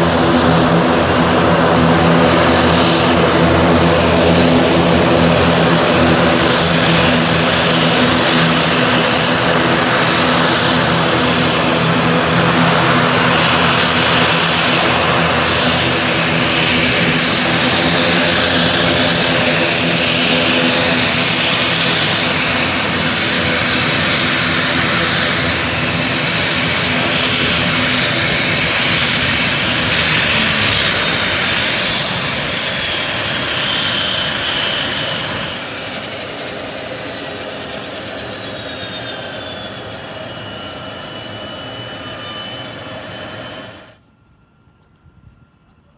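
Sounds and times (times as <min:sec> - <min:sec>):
high turbine whine: 0:00.0 - 0:45.5
propeller drone: 0:00.0 - 0:45.9.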